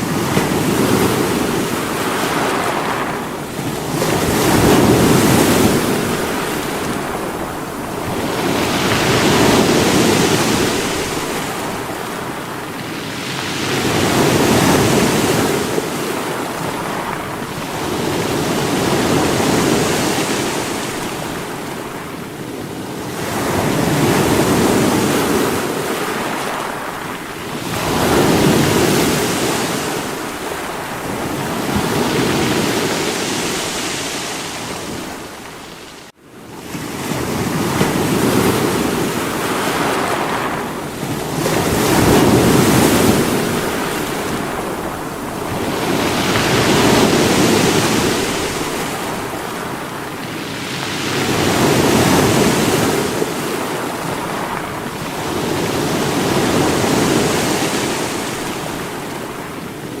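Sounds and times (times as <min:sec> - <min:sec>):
sea waves breaking against rocks: 0:00.0 - 1:00.0.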